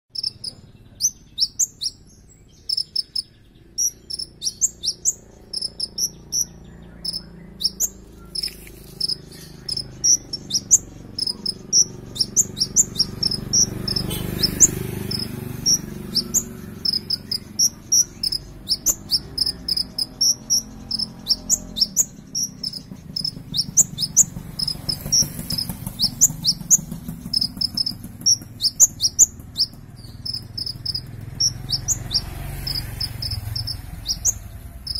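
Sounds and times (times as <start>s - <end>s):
sunbird singing high chips and twitters: 0.1s - 34.9s.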